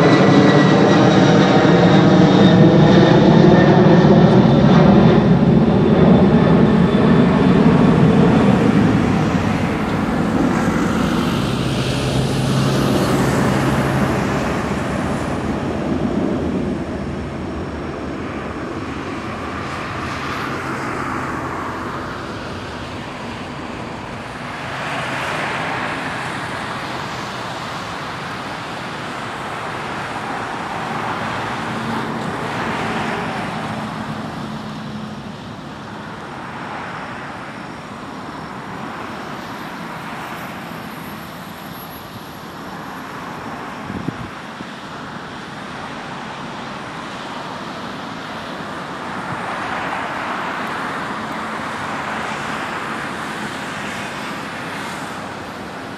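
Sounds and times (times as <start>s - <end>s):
distant engine roar: 0.0s - 55.9s.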